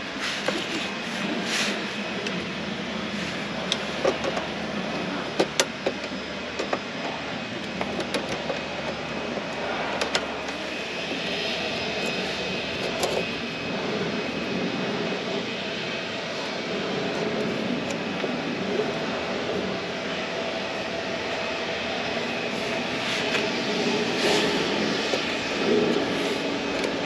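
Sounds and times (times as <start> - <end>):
outdoor background rumble: 0.0 - 27.0.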